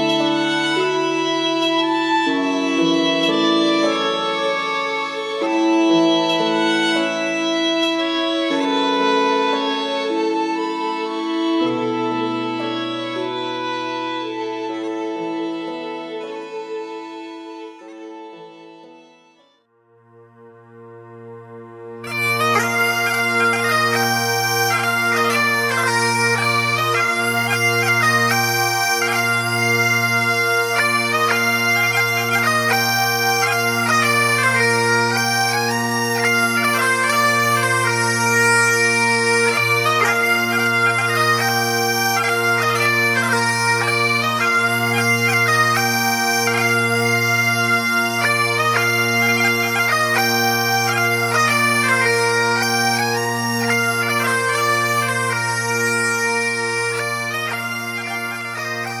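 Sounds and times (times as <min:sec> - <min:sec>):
bagpipe music: 0:00.0 - 0:59.0.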